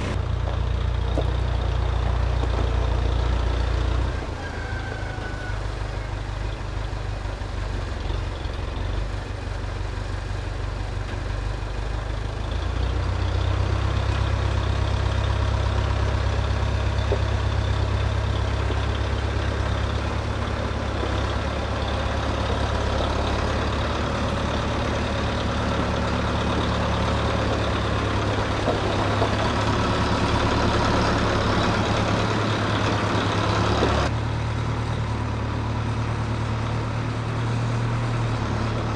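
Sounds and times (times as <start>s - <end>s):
engine humming: 0.0s - 38.9s.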